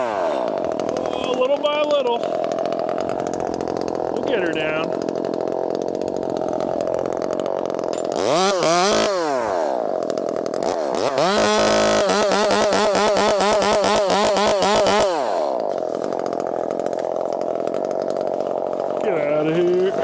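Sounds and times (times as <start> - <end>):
chainsaw idling and revving: 0.0 - 20.0.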